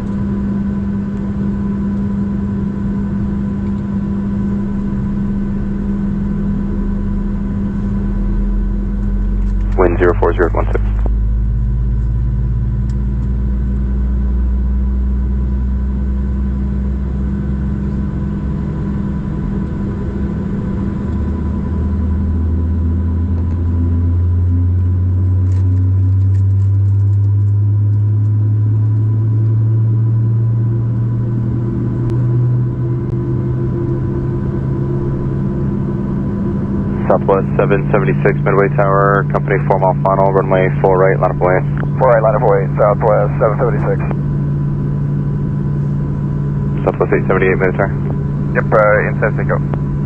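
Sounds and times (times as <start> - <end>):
jet engines droning: 0.0 - 50.0.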